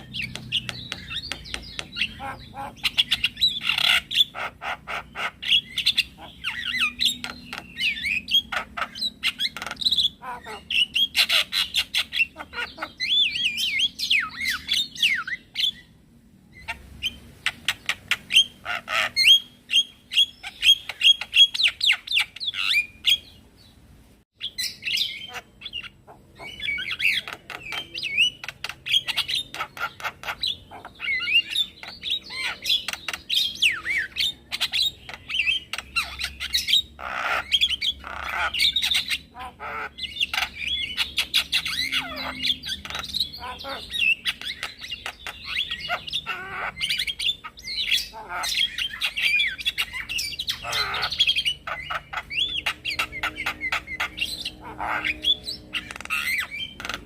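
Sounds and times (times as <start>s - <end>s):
myna bird singing chatter: 0.0s - 57.0s.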